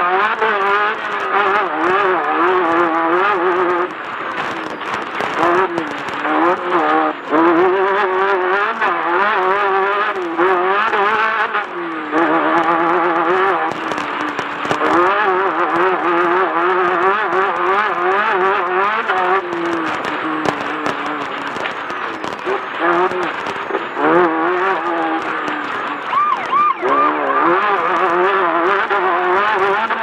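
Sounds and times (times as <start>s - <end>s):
race car engine revving hard: 0.0s - 30.0s.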